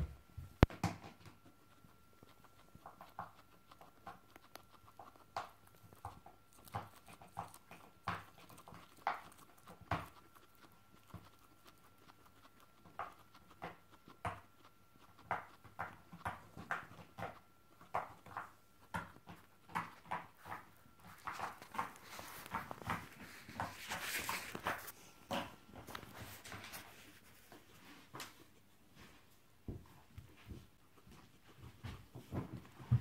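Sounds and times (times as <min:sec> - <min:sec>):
guinea pigs squeaking: 0:00.0 - 0:27.8.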